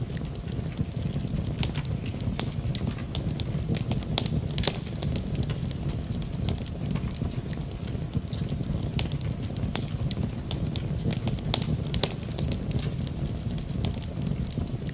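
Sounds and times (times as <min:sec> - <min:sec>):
wood fire crackling and rumbling: 0:00.0 - 0:14.9.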